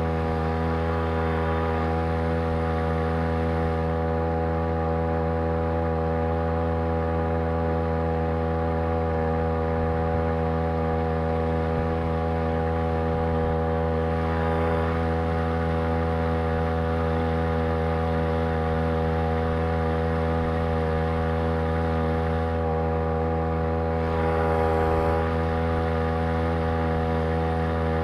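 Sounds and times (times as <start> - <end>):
outboard motor droning: 0.0 - 28.0.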